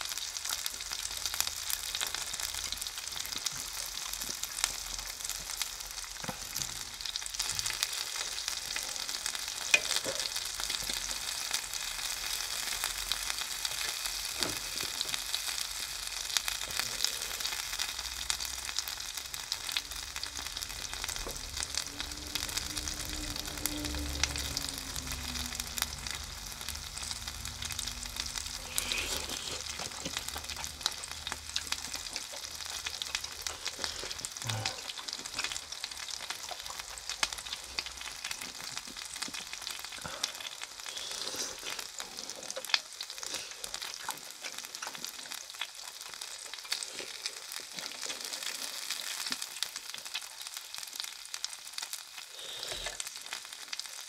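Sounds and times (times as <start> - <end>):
skewers sizzling on grill: 0.0 - 54.0.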